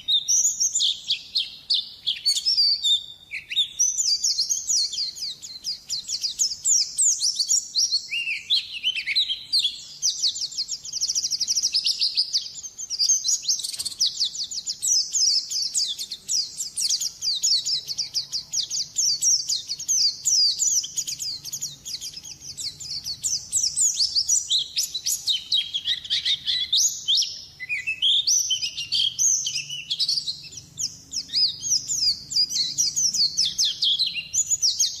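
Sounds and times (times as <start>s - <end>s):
small bird twittering song: 0.0s - 35.0s.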